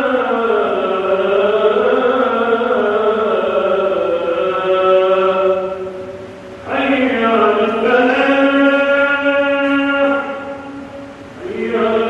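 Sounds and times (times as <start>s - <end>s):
man chanting call to prayer: 0.0s - 10.8s, 11.4s - 12.0s.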